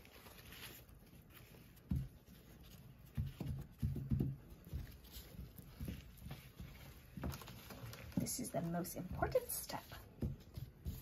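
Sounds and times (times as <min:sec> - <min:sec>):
paper towel rustling: 0:00.0 - 0:11.0.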